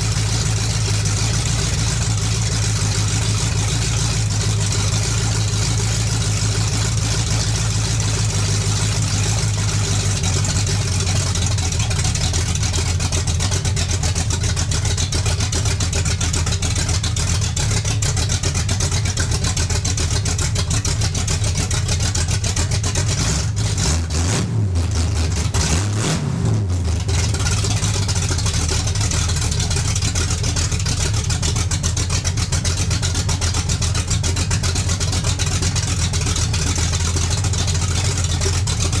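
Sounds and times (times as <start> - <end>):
v eight engine running: 0.0 - 39.0.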